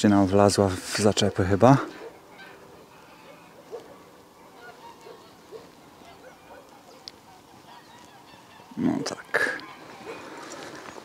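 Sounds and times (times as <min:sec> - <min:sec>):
faint bird calls: 0:01.8 - 0:11.0.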